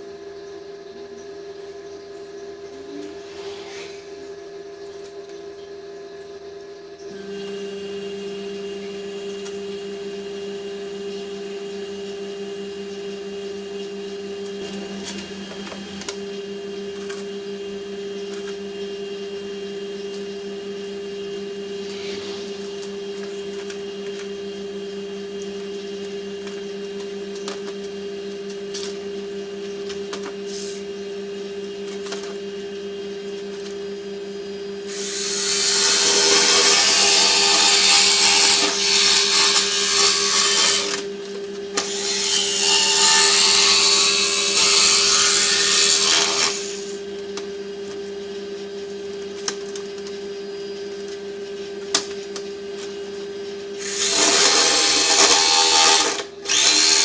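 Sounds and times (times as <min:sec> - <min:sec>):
machine hum: 0:00.0 - 0:57.0.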